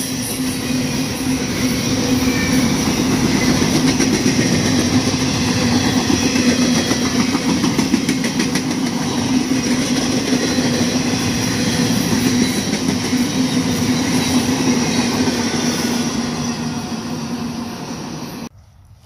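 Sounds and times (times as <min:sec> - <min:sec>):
train wheels rumbling and clattering: 0:00.0 - 0:18.5.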